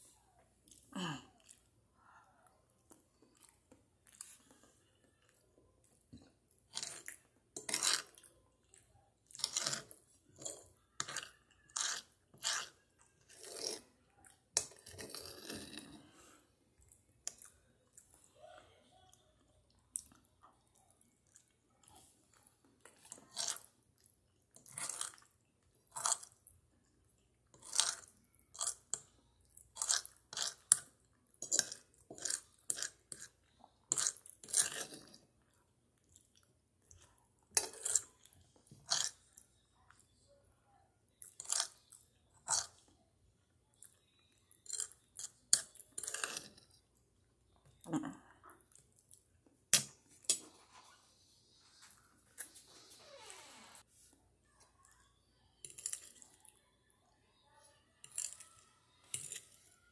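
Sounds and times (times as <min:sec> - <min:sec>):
chewing spaghetti: 0:00.2 - 0:40.3, 0:41.1 - 0:50.7, 0:58.0 - 0:59.9.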